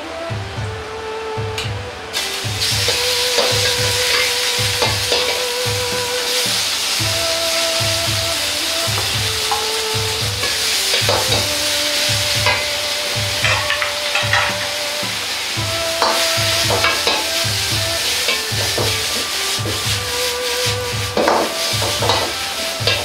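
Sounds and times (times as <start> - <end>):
food sizzling in a wok: 2.1 - 23.0
metal ladle scraping a wok: 2.2 - 23.0.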